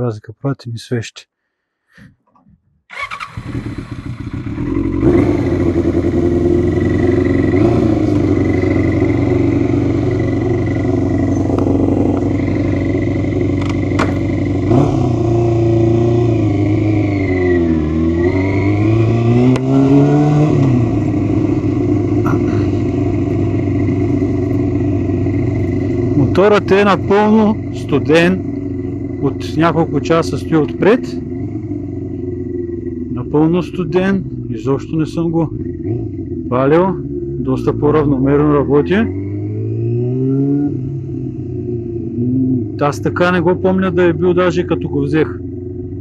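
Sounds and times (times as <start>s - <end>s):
motorcycle engine running: 2.9s - 46.0s.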